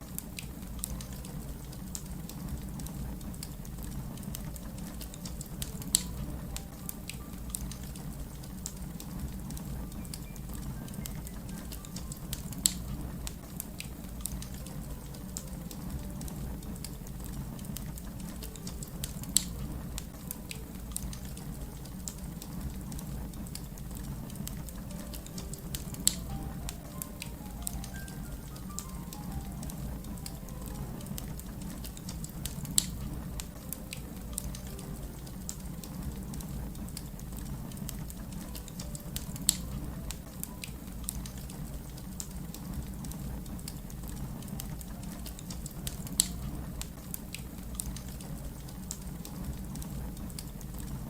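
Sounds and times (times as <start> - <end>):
fire rumbling: 0.0 - 51.0
wood fire crackling: 0.0 - 51.0
fire popping loudly: 0.1 - 51.0.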